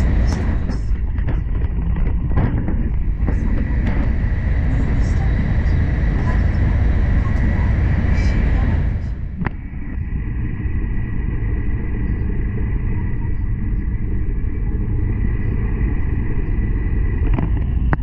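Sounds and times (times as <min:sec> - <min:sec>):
faint thin whine: 0:00.0 - 0:01.4, 0:03.0 - 0:18.0
train rumble inside passenger car: 0:00.0 - 0:18.0.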